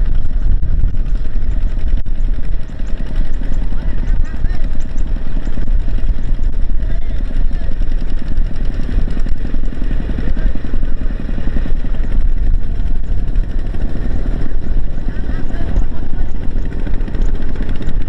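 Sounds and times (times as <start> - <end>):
bulldozer diesel engine chugging: 0.0 - 18.0.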